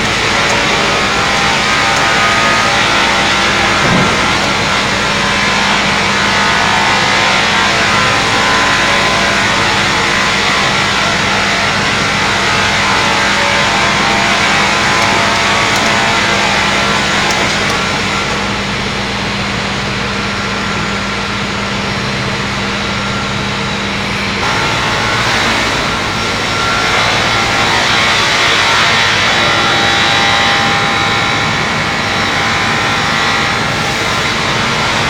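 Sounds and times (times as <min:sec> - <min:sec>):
circular sawing machine running: 0:00.0 - 0:35.0
steady hum: 0:00.0 - 0:35.0.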